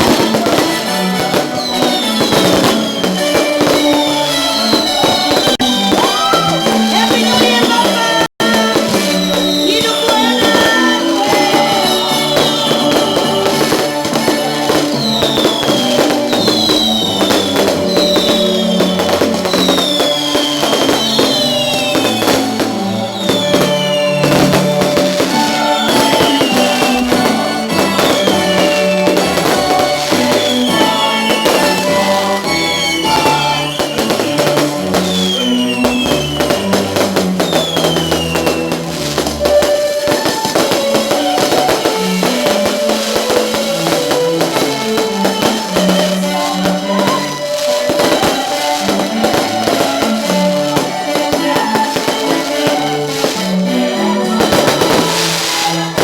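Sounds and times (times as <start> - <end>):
music with drums: 0.0 - 56.0.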